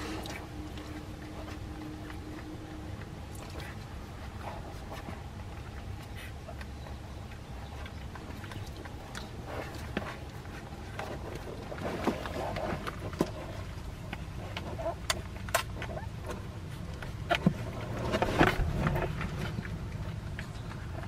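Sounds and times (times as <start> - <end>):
low hum: 0.0 - 21.0
puppies suckling: 0.0 - 21.0.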